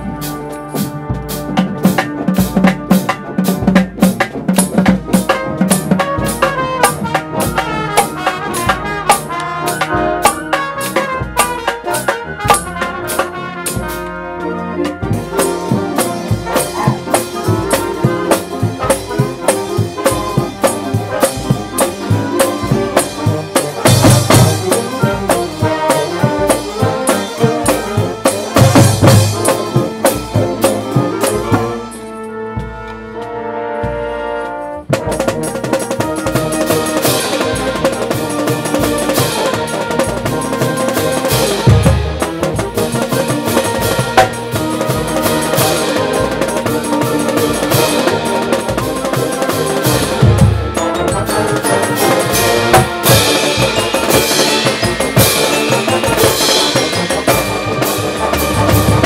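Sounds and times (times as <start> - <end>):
marching drums beat: 0.0 - 31.9, 33.9 - 59.0
brass section playing: 0.0 - 59.0.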